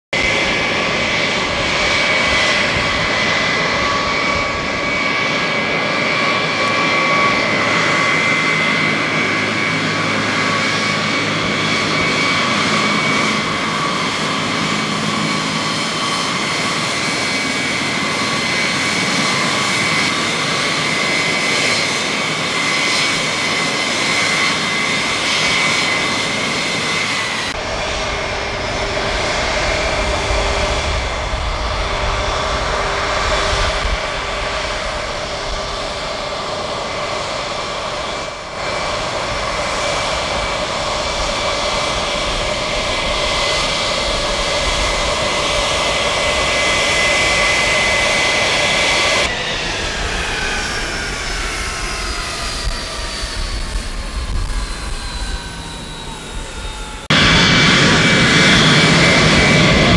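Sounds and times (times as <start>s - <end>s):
jet engines taxiing with whine: 0.2s - 59.9s.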